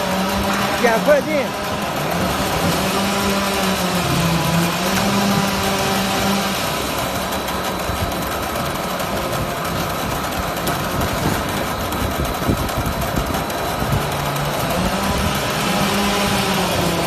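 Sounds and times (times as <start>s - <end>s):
veneer peeling lathe running: 0.0s - 17.0s.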